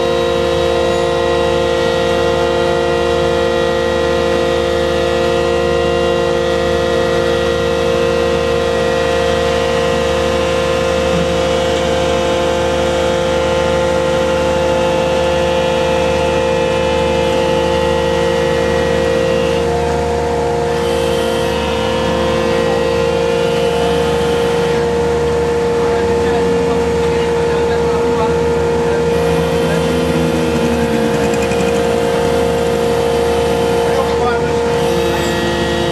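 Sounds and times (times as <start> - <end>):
diesel machinery droning: 0.0 - 35.9.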